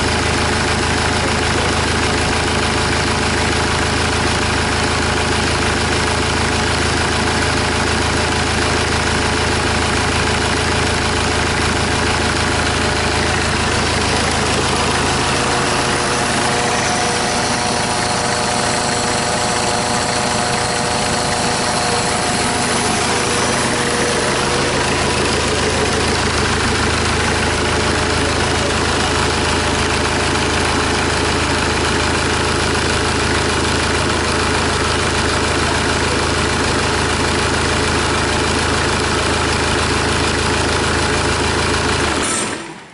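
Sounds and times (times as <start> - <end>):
diesel engine idling: 0.0 - 42.8.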